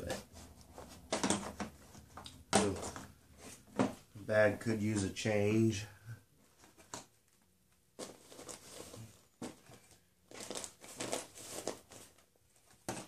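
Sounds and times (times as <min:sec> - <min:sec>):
plastic rustling and scraping: 0:00.0 - 0:04.1, 0:06.4 - 0:13.0.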